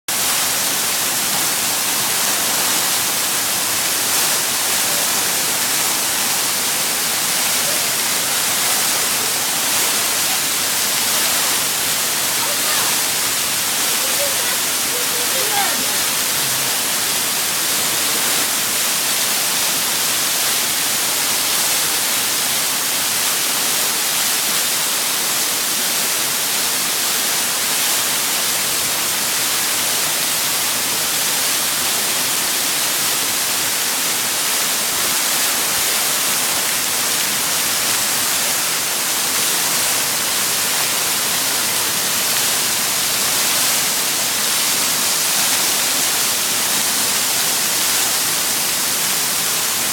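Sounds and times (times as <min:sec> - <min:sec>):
waterfall rushing: 0:00.1 - 0:49.9.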